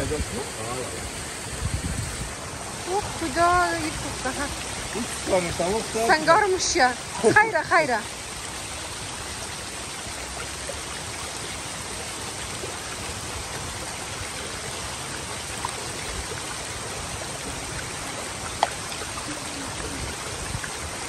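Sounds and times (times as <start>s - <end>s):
stream running over stones: 0.0s - 21.0s.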